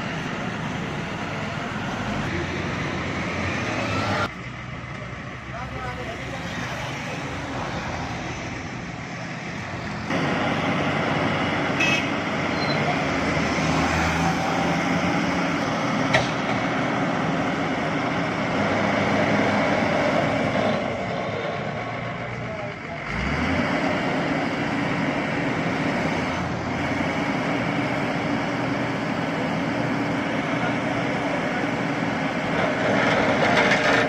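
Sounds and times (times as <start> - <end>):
heavy vehicle engine running: 0.0 - 34.0.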